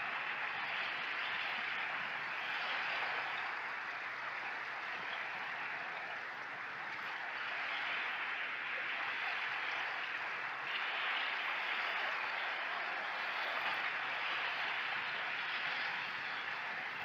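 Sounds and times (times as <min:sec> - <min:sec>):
waves washing over pebbles: 0:00.0 - 0:17.0.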